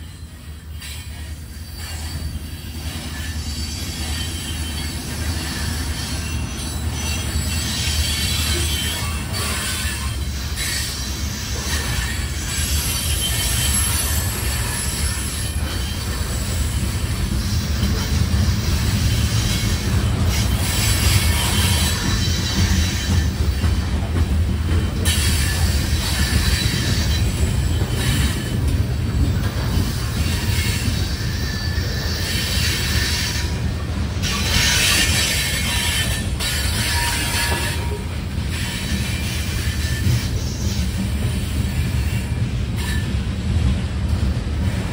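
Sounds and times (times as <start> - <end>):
wheel squeal: 0.0 - 23.8, 24.8 - 43.3
train wheels rumbling on rail: 0.0 - 44.9.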